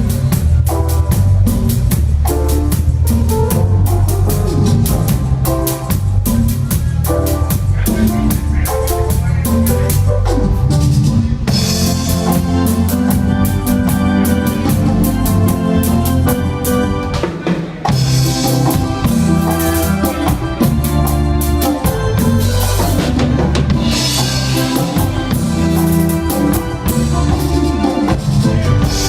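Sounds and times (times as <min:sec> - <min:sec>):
live band playing cumbia: 0:00.0 - 0:29.0.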